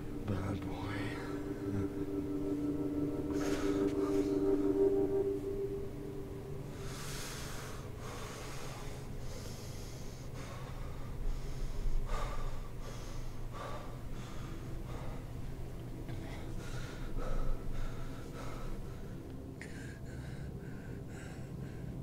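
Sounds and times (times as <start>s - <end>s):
low steady hum: 0.0s - 22.0s
man breathing hard: 1.0s - 5.6s, 6.7s - 22.0s.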